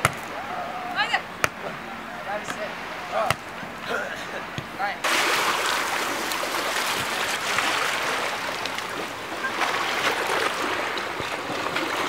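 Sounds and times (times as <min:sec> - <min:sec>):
small waves lapping shore: 0:00.9 - 0:12.0.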